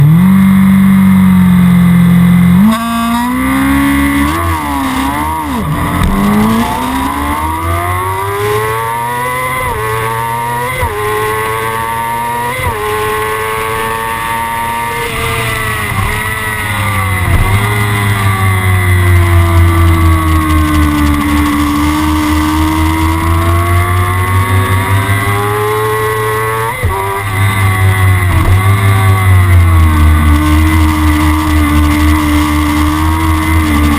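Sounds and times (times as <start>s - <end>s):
motorcycle engine accelerating hard: 0.0s - 33.9s.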